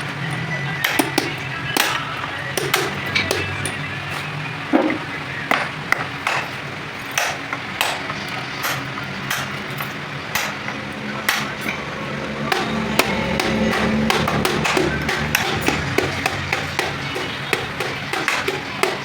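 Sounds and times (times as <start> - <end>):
hammer striking metal: 0.8 - 3.9, 4.7 - 19.0.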